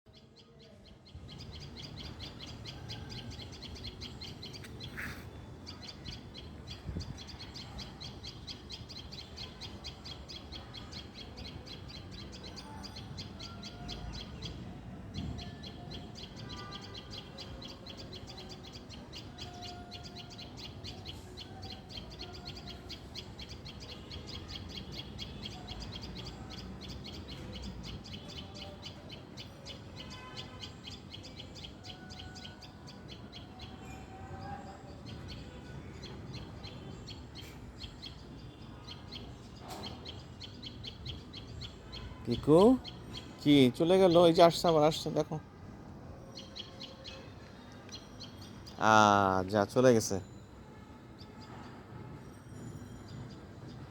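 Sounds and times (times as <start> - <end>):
birds chirping: 0.2 - 53.9.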